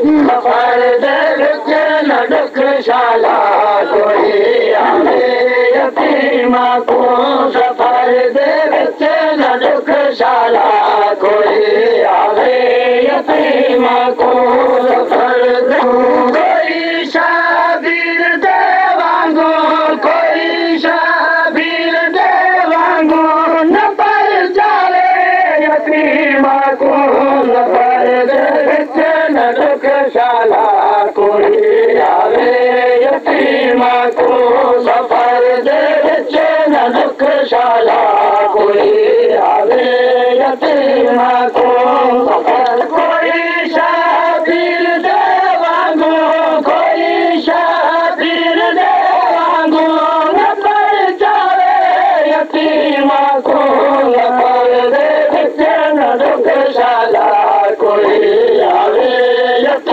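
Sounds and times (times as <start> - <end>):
group of voices chanting: 0.0 - 59.9
man chanting a lament: 0.0 - 59.9.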